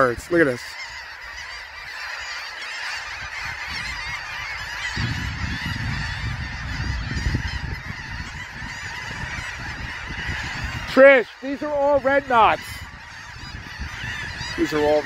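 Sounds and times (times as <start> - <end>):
flock of shorebirds calling: 0.0 - 15.0.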